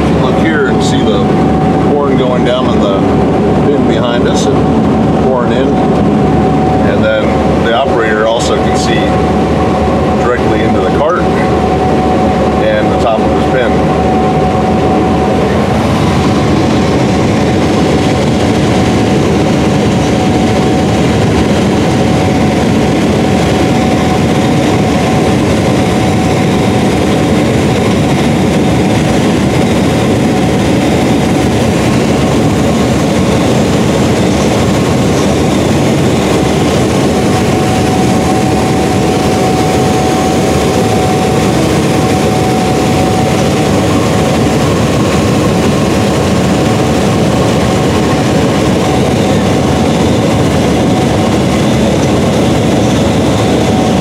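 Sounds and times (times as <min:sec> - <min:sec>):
machinery drone: 0:00.0 - 0:54.0
thin steady whine: 0:00.0 - 0:54.0.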